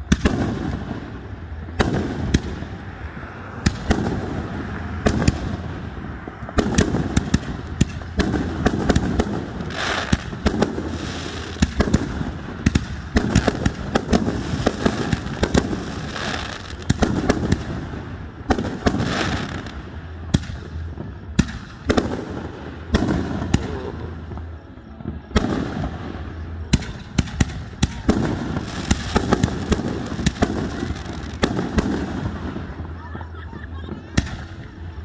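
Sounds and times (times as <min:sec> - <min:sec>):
fireworks cracking and booming: 0:00.0 - 0:35.0
fireworks crackling: 0:00.0 - 0:35.0.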